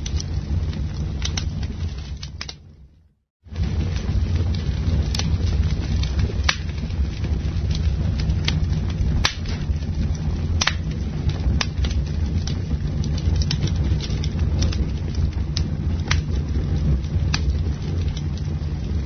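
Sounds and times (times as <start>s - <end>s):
campfire crackling and popping: 0.0s - 2.9s, 3.5s - 19.0s
steady low rumble: 0.0s - 19.0s.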